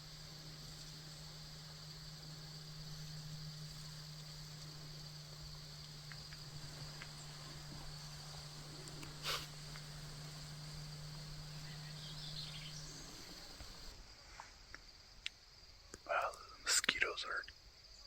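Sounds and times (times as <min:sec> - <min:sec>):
faint low hum: 0:00.0 - 0:18.0
insects trilling: 0:00.0 - 0:18.0.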